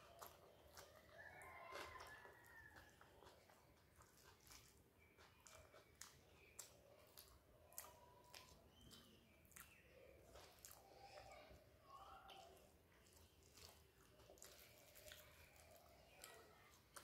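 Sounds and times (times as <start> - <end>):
faint chewing with wet clicks: 0.0 - 17.0
fingers squishing rice: 0.0 - 17.0.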